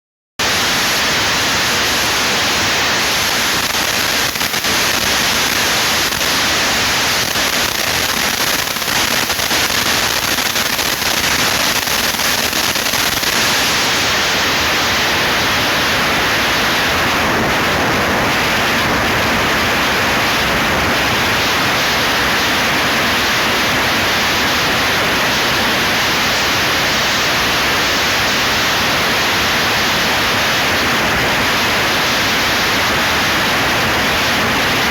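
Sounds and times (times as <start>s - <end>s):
loud static hiss: 0.4s - 34.9s.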